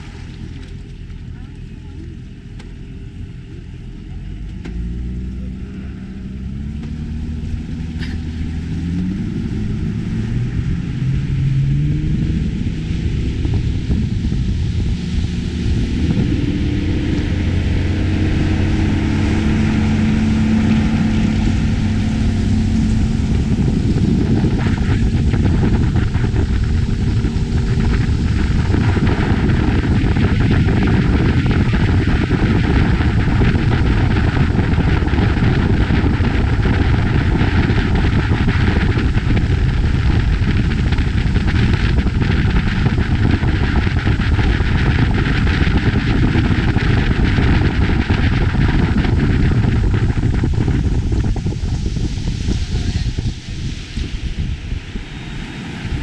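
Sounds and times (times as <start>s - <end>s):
motorboat engine revving: 0.0s - 56.0s
water rushing along hull: 0.0s - 56.0s.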